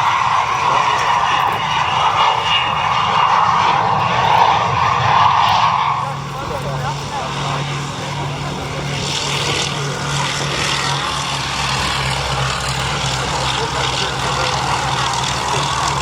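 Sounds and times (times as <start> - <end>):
propeller aircraft engine hum: 0.0 - 16.0.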